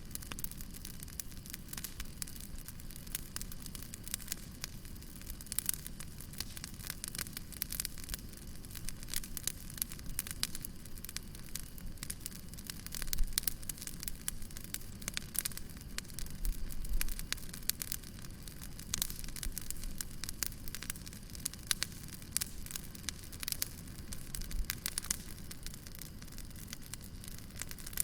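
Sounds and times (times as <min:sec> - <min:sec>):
fire crackling and popping: 0:00.0 - 0:28.0
low rumble of flame: 0:00.0 - 0:28.0.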